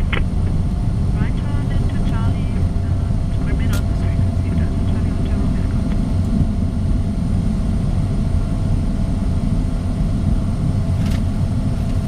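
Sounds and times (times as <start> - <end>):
jet rolling on runway rumble: 0.0 - 12.0.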